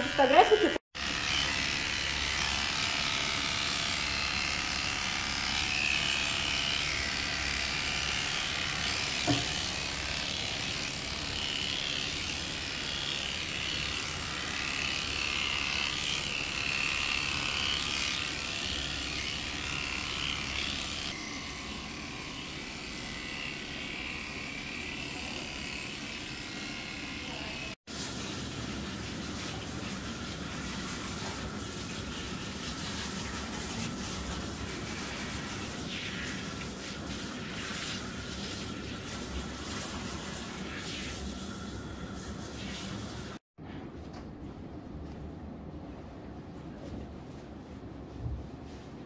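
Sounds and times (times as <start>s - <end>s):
electric clippers running: 0.0s - 27.8s, 29.7s - 42.2s.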